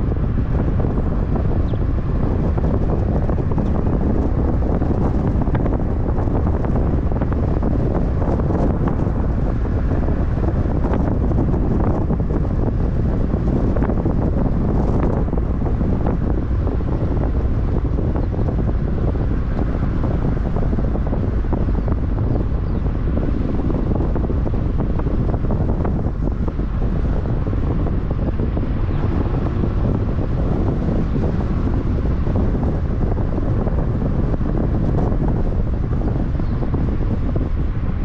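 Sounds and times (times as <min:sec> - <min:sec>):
low road rumble: 0:00.0 - 0:38.0
wind buffeting microphone: 0:00.0 - 0:38.0.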